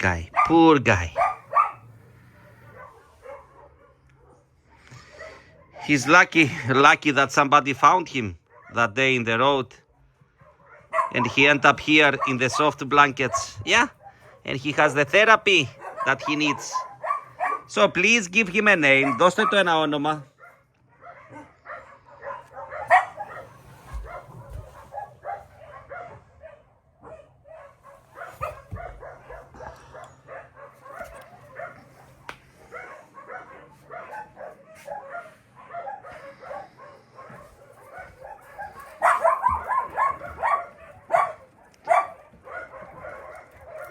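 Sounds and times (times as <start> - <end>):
dogs barking: 0.0 - 43.9.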